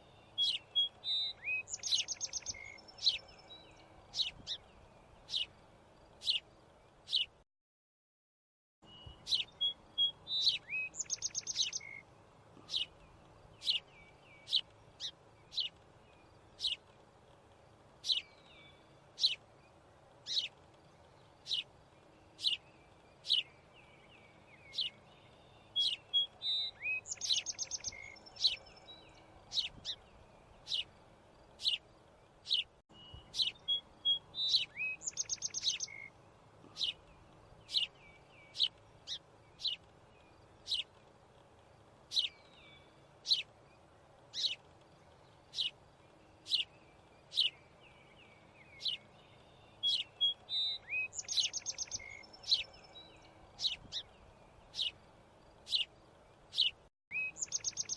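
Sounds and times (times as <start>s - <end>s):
bird chirping: 0.0s - 7.4s, 8.8s - 17.0s, 18.0s - 41.0s, 42.0s - 57.9s.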